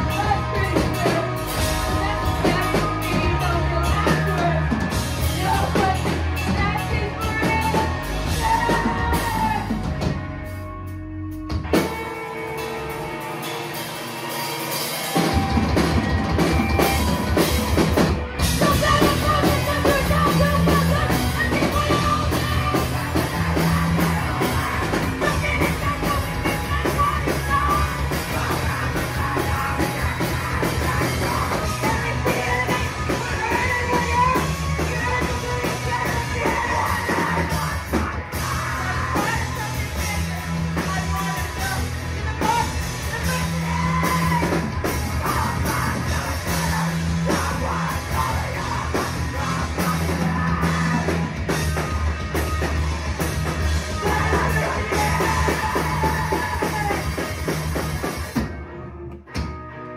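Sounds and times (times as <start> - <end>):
vocals: 0.0 - 58.8
distorted electric guitar: 0.0 - 59.9
live rock band playing: 0.0 - 59.9.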